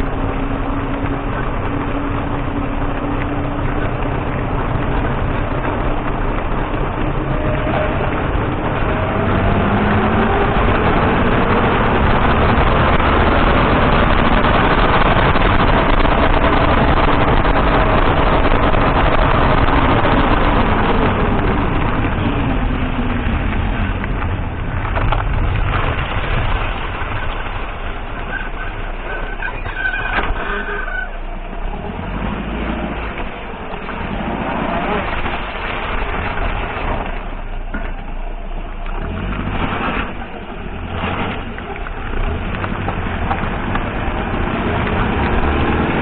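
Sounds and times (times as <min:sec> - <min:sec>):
faint car engine: 0:00.0 - 0:46.0
road tyre and wind rumble: 0:00.0 - 0:46.0.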